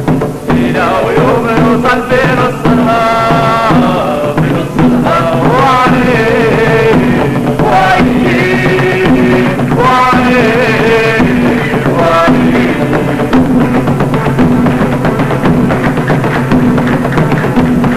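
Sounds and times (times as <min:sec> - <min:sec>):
song with bending melodic lead: 0:00.0 - 0:17.9.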